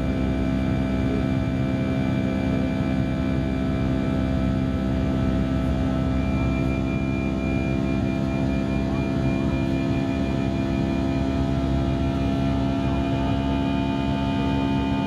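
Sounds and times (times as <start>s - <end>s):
aircraft cabin engine drone: 0.0s - 15.0s.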